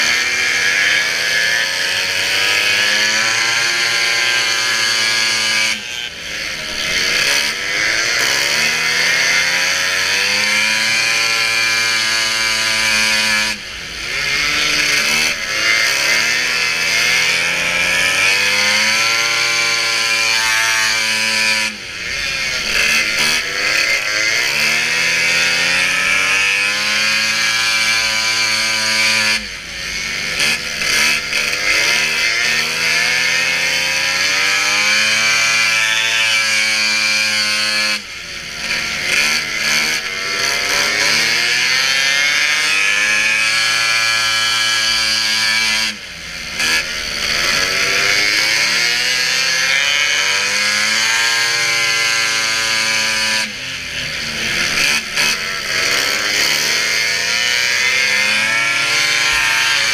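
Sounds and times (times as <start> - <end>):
snowmobile engine revving: 0.0 - 59.9.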